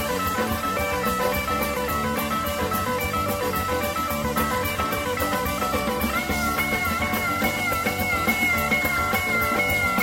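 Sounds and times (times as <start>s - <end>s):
guitar: 0.0s - 10.0s
steady drum beat: 0.0s - 10.0s.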